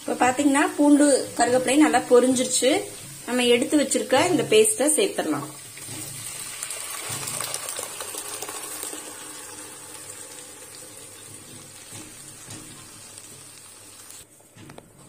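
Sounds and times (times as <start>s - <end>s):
paste sizzling in hot oil: 0.0s - 14.3s.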